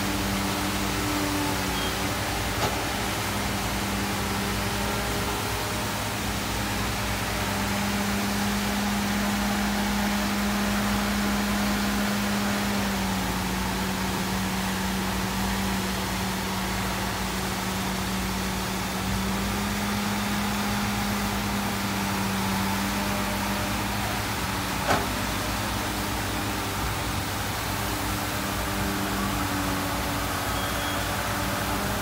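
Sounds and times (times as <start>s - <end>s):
excavator engine droning: 0.0s - 32.0s.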